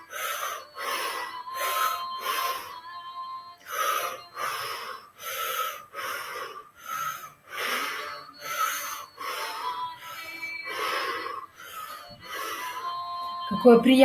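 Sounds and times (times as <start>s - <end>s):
person breathing rhythmically: 0.0s - 13.5s.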